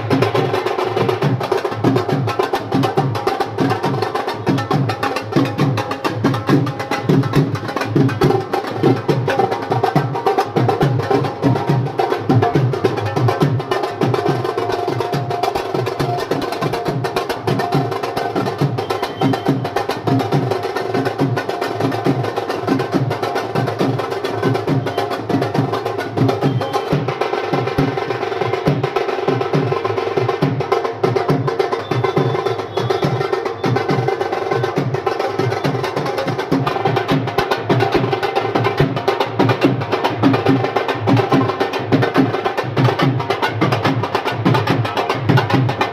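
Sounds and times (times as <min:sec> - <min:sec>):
music with fast drum beat: 0:00.0 - 0:45.9.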